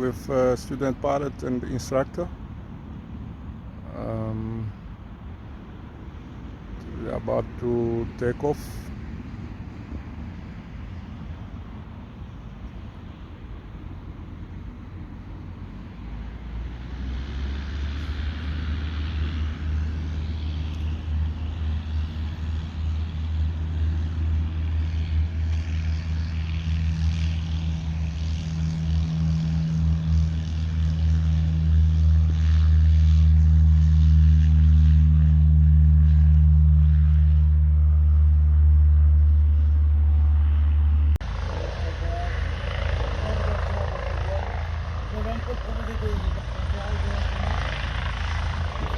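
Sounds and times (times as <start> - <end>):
propeller plane engine drone: 0.0 - 48.9.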